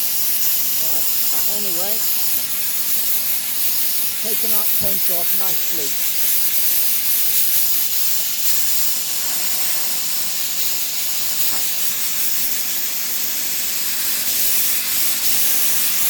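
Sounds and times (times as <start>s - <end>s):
faint compressor motor hum: 0.0s - 16.0s
soda blaster nozzle hissing: 0.0s - 16.0s.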